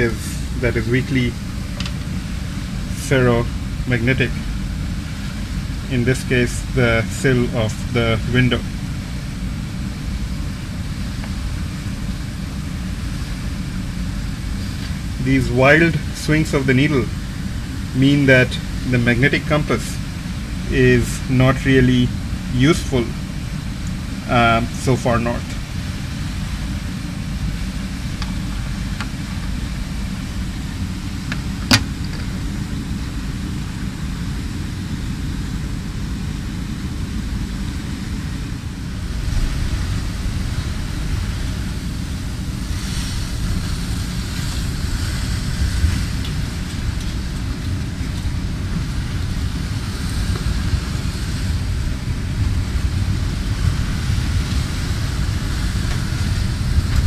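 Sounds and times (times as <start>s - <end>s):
hiss: 0.0s - 57.0s
low mechanical rumble: 0.0s - 57.0s.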